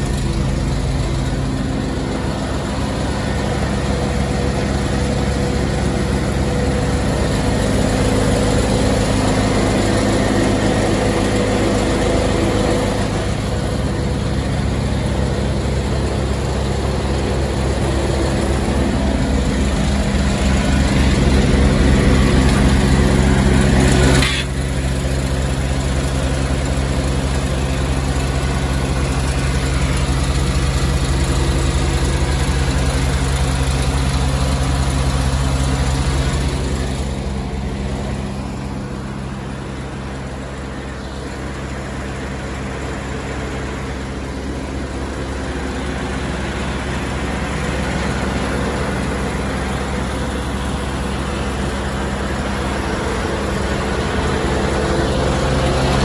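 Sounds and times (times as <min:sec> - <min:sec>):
machine engine running: 0:00.0 - 0:56.0.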